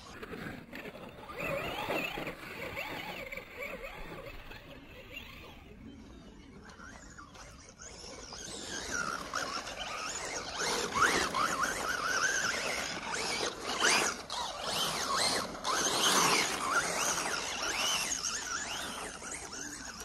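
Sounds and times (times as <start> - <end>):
rc car motor whine: 0.0 - 20.0.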